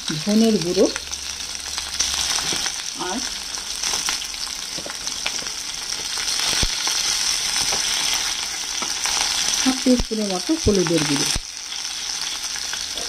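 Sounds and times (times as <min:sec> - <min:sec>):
oil popping and crackling: 0:00.0 - 0:13.0
vegetables sizzling in oil: 0:00.0 - 0:13.0.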